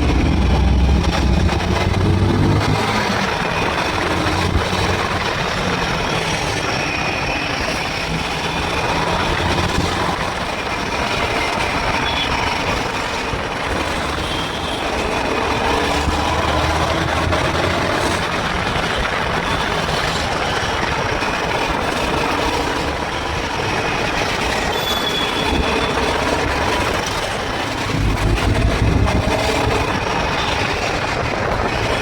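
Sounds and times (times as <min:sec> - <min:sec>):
rushing noise: 0:00.0 - 0:32.0.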